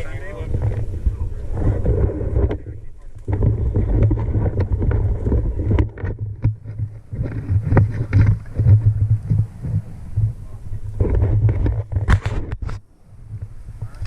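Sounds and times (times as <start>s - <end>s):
wind buffeting microphone: 0.0s - 14.0s
short clicks and rustles: 1.6s - 14.0s.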